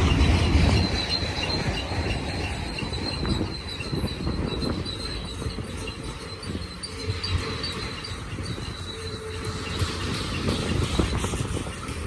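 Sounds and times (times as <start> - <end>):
train wheel squeal: 0.0 - 12.0
wheels rumbling on rails: 0.0 - 12.0.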